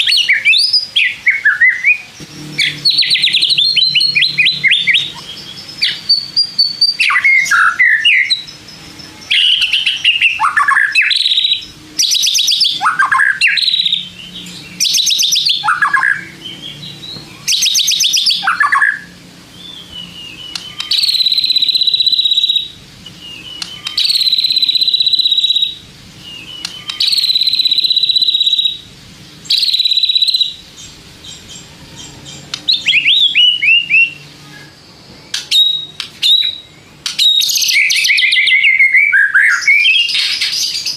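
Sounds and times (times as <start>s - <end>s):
bird singing trills and whistles: 0.0s - 40.9s.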